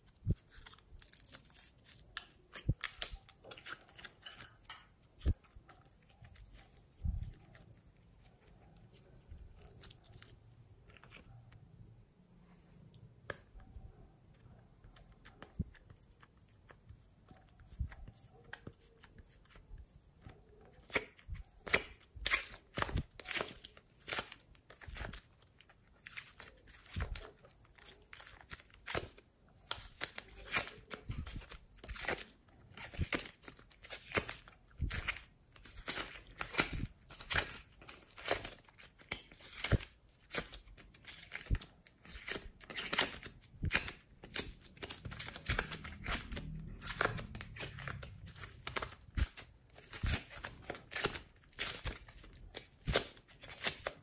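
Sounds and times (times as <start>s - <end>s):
sticky clay crackling and tearing: 0.0s - 11.4s, 14.8s - 54.0s.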